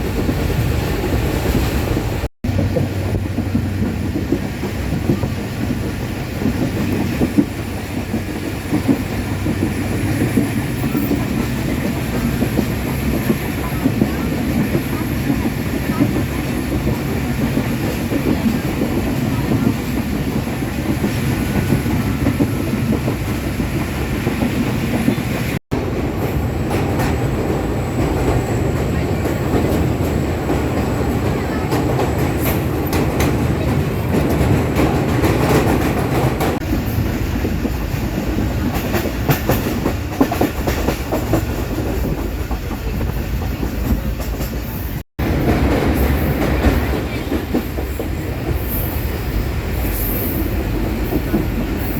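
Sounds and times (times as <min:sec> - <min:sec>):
train rumbling on rails: 0:00.0 - 0:51.9
wheels clicking over rail joints: 0:00.1 - 0:49.1.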